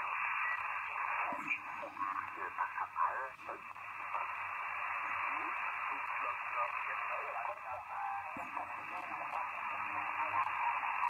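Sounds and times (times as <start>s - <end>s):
radio static hiss: 0.0s - 11.0s
garbled radio voice: 1.1s - 11.0s.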